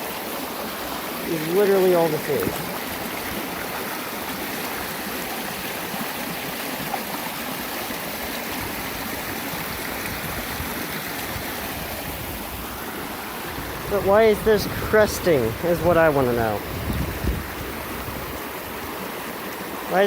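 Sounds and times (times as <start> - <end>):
flooded creek rushing: 0.0 - 20.0
small waterfall: 0.0 - 20.0.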